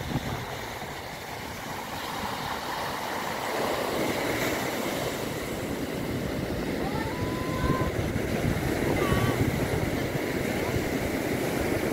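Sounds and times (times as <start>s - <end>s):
waves breaking on shore: 0.0s - 11.9s
wind rumbling on microphone: 0.0s - 11.9s.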